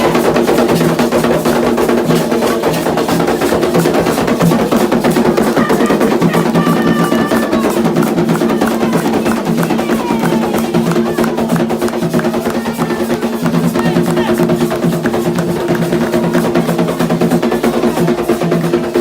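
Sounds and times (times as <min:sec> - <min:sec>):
hand drums playing fast rhythm: 0:00.0 - 0:19.0.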